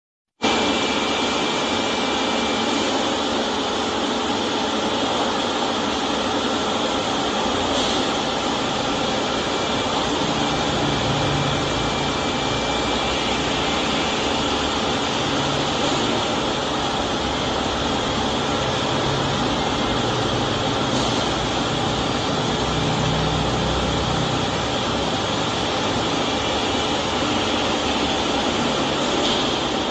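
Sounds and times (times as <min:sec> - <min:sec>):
continuous rushing noise: 0:00.4 - 0:29.9
faint steady whine: 0:00.4 - 0:29.9
steady mechanical hum: 0:00.4 - 0:29.9.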